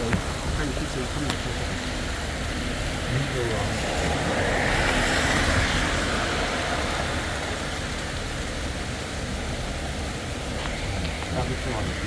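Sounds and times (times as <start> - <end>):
hail and rain pelting down: 0.0 - 12.0.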